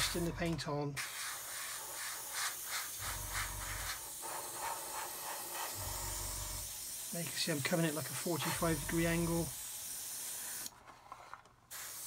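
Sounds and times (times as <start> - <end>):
airbrush spraying hiss: 1.0 - 10.7, 11.7 - 12.0.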